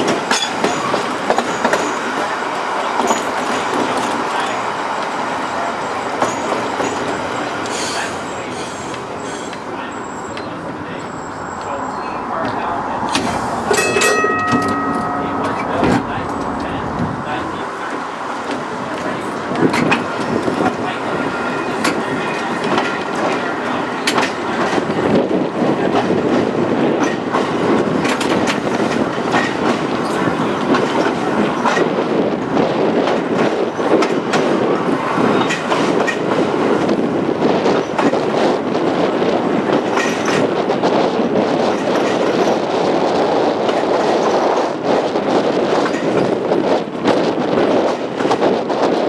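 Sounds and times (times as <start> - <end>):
streetcar wheels rumbling on rails: 0.0 - 49.0.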